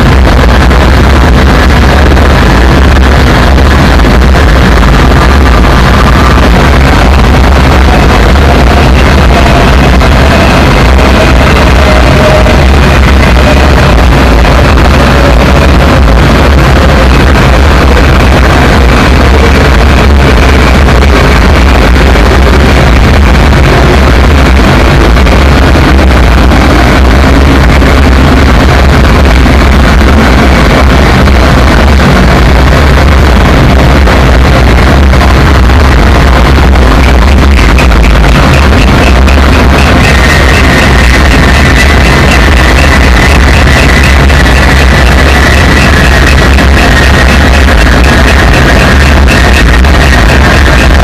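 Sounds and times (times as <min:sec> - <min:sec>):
deep bass drone: 0:00.0 - 0:51.0
dense wall of electronic noise: 0:00.0 - 0:51.0.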